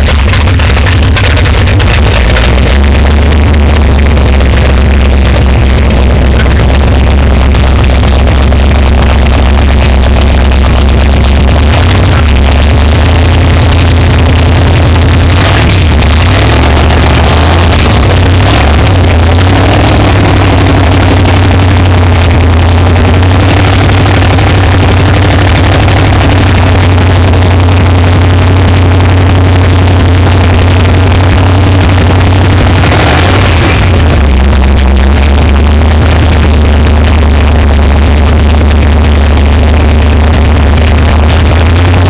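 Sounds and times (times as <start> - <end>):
loud car engine running: 0.0 - 42.0.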